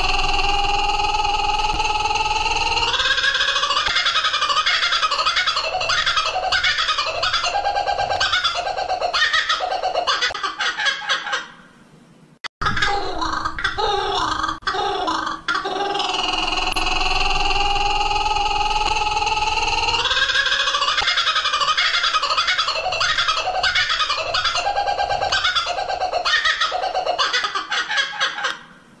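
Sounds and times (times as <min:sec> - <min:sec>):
kookaburra laughing call: 0:00.0 - 0:11.6, 0:12.6 - 0:28.7.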